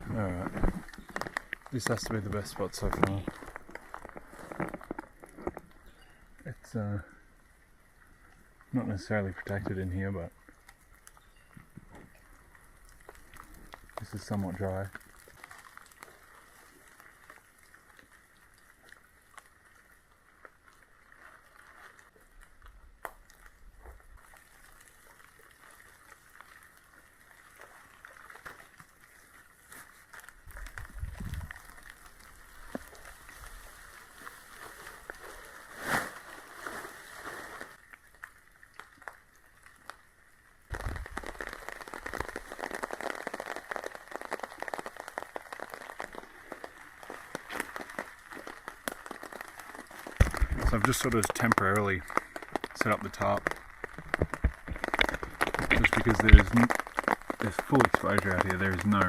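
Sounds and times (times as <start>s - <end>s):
rain pattering on fabric: 0.0s - 59.0s.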